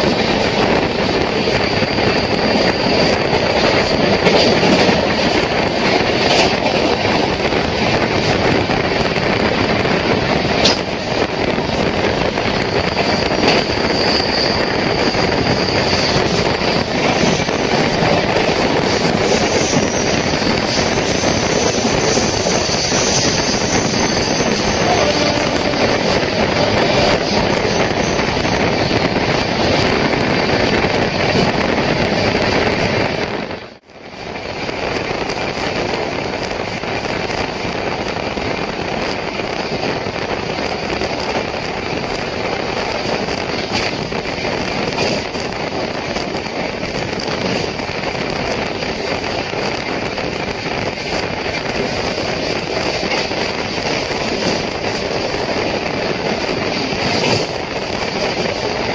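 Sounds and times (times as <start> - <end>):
train wind and wheel noise: 0.0 - 58.9.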